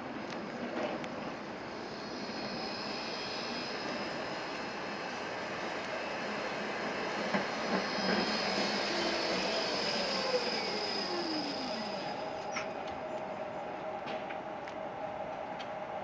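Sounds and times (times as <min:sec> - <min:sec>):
tram electric whine: 0:00.0 - 0:16.0
tram braking whine falling in pitch: 0:01.5 - 0:15.2.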